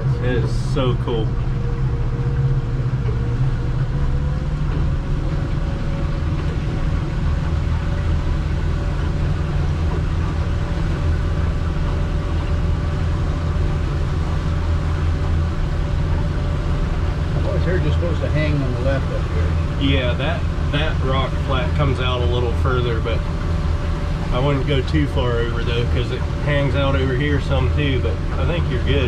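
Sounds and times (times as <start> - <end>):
boat engine running: 0.0 - 29.0
faint steady whine: 0.0 - 29.0.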